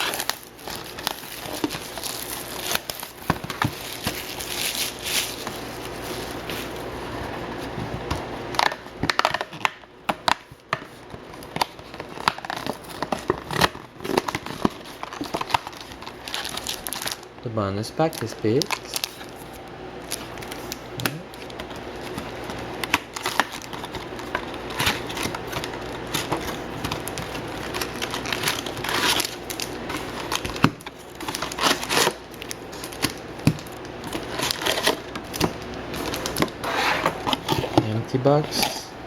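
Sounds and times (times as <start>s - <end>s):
foil wrappers crinkling: 0.0s - 39.0s.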